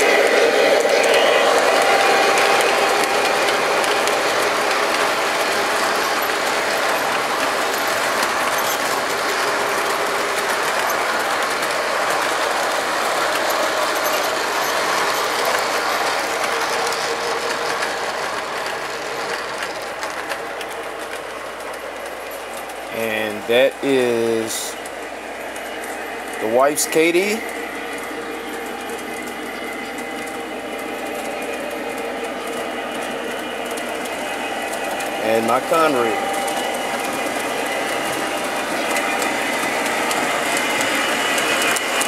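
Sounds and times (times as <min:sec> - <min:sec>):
model train running on track: 0:00.0 - 0:42.0.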